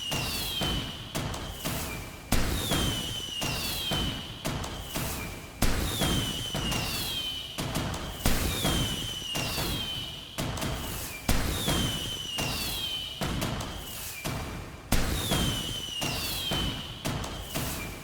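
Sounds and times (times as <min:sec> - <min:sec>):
falling firework whistle: 0:00.0 - 0:18.0.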